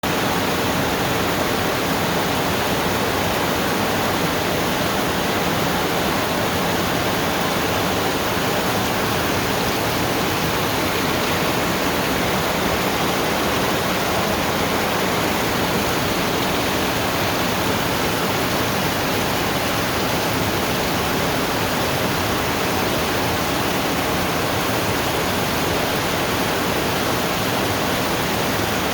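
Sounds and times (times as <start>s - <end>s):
rain falling: 0.1s - 28.9s.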